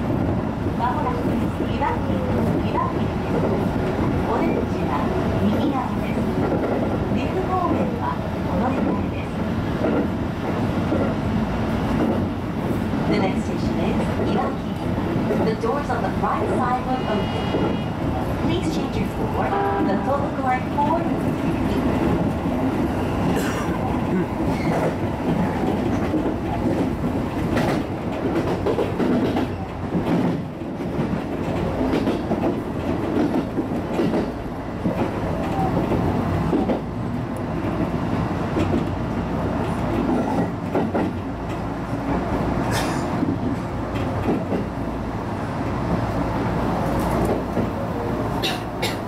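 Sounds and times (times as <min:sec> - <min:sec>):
train wheels rumbling on rails: 0:00.0 - 0:49.0
rail joint clacks: 0:00.9 - 0:11.3, 0:11.9 - 0:44.8, 0:46.8 - 0:49.0.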